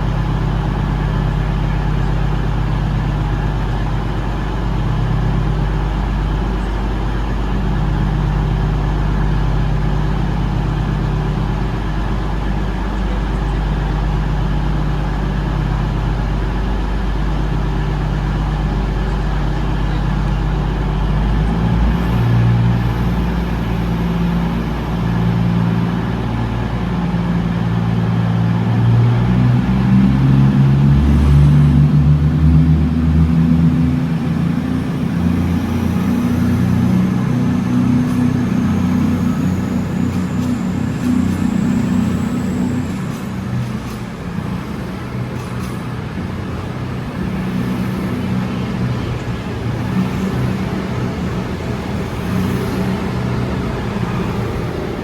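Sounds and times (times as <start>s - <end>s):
diesel train engine idling: 0.0s - 55.0s.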